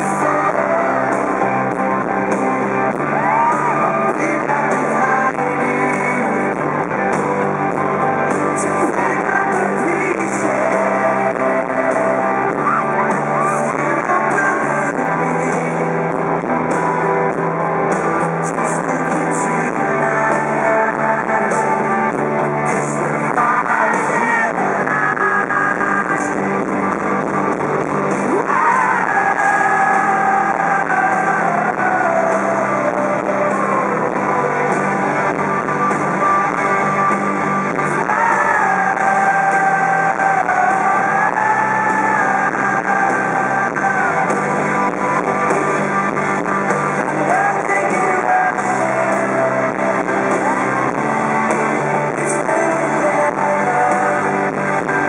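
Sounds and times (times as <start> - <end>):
drums: 0.0 - 55.0
electric guitar: 0.0 - 55.0
lead vocals: 0.0 - 55.0
live rock band playing: 0.0 - 55.0.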